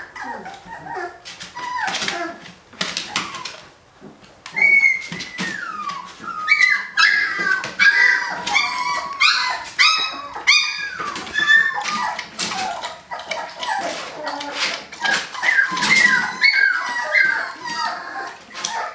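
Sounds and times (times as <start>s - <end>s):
puppies whining and yelping: 0.0s - 18.9s.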